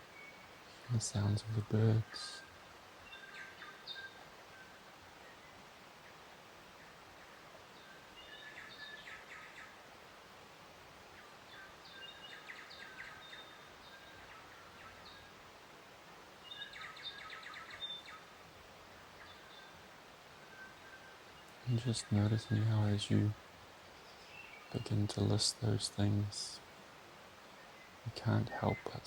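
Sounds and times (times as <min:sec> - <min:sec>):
songbirds chirping and singing: 0:00.0 - 0:09.9, 0:11.0 - 0:15.6, 0:16.3 - 0:26.7, 0:27.3 - 0:29.0
faint outdoor hiss: 0:00.0 - 0:29.0.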